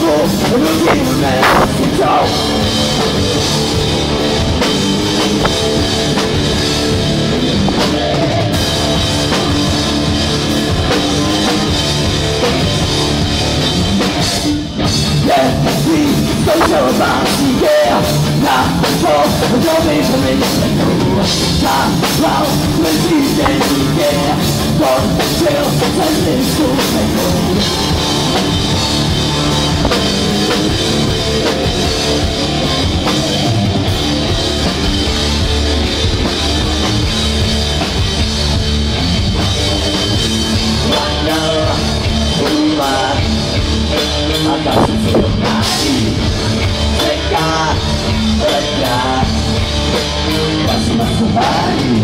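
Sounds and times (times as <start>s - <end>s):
rock band playing live: 0.0s - 52.0s.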